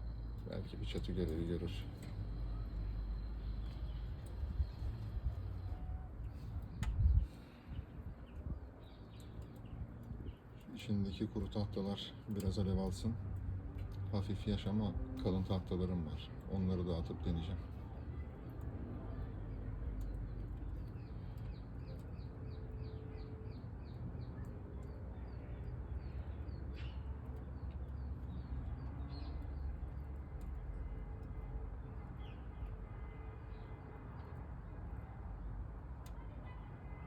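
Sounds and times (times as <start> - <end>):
songbird singing: 0.0 - 13.1, 14.2 - 37.0.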